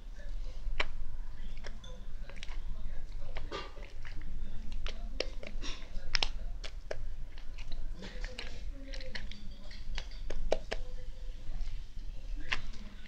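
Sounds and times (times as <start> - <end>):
slime squished by hand: 0.2 - 11.0.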